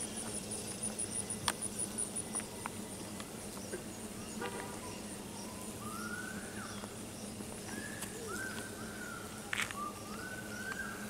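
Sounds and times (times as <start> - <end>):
low steady hum: 0.0 - 11.0
songbird singing: 0.0 - 11.0.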